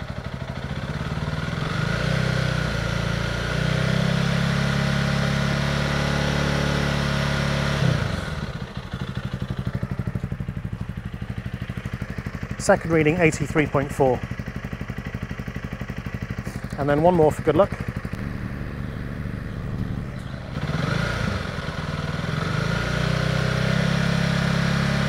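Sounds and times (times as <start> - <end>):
motorcycle engine revving and idling: 0.0 - 25.0.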